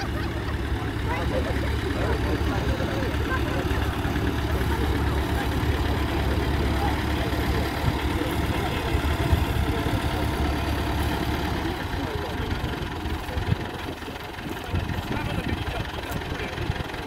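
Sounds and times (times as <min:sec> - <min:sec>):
tractor engine idling: 0:00.0 - 0:17.0.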